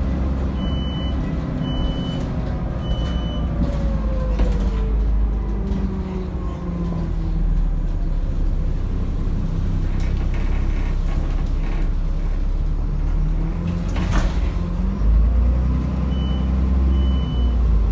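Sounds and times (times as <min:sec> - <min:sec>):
bus engine rumble: 0:00.0 - 0:17.9.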